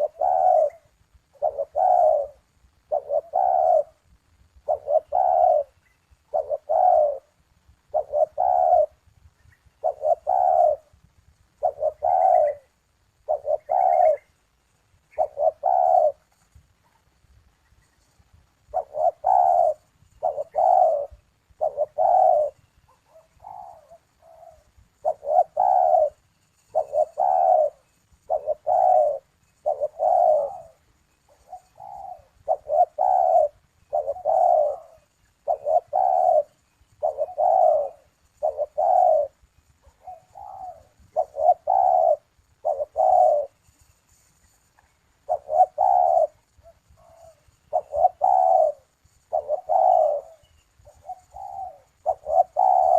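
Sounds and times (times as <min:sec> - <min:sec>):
dove cooing: 0:00.0 - 0:52.9.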